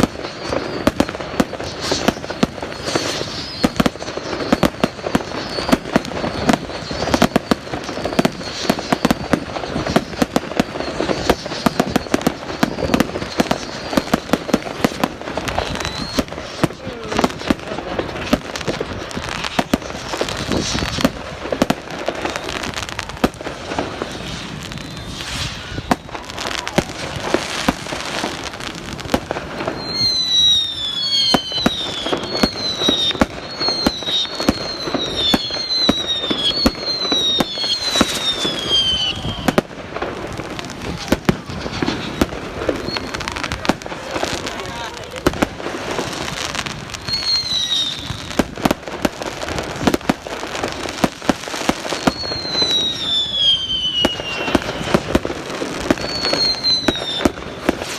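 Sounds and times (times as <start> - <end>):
falling firework whistles: 0.0 - 57.9
fireworks crackling and popping: 0.0 - 57.9.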